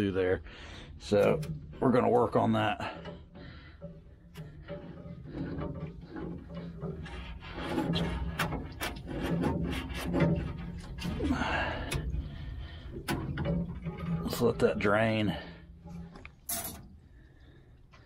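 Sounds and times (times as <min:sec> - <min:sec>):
metal antenna scraping in pipe: 0:00.9 - 0:17.3.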